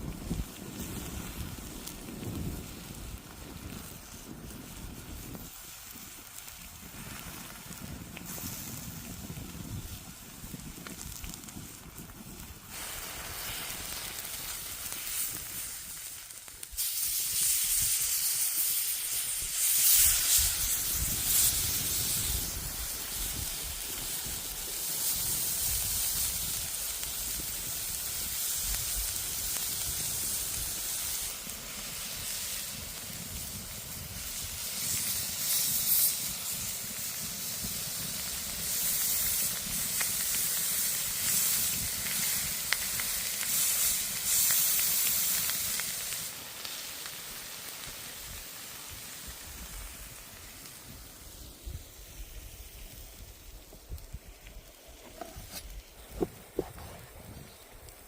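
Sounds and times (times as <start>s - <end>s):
food sizzling in hot oil: 0.0s - 54.1s.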